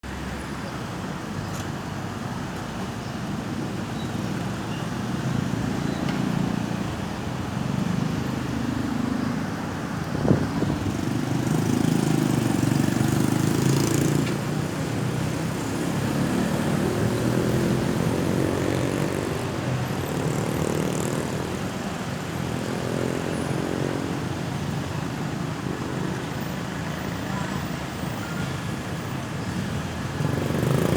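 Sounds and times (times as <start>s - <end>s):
motor vehicles passing: 0.0s - 30.9s.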